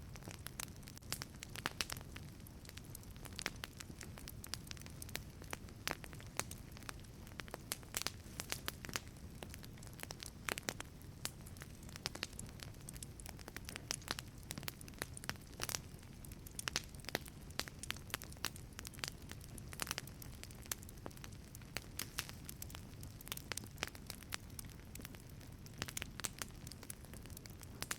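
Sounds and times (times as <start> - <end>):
low rumble of flames: 0.0 - 27.9
wood fire crackling and popping: 0.0 - 27.9.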